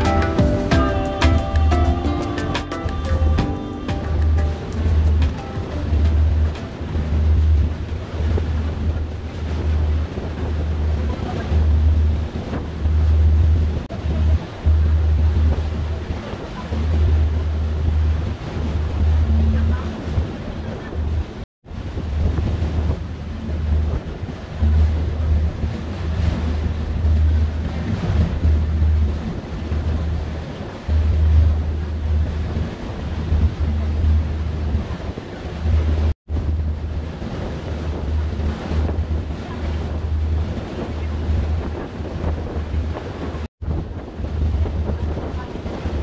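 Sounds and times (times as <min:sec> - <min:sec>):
boat running noise: 0:00.0 - 0:46.0
rush of wind and water: 0:00.0 - 0:46.0
wind buffeting the microphone: 0:02.9 - 0:46.0.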